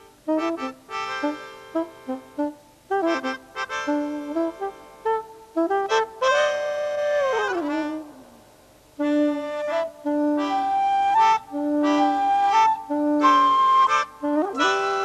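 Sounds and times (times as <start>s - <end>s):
reedy wind instrument chords: 0.0s - 15.0s.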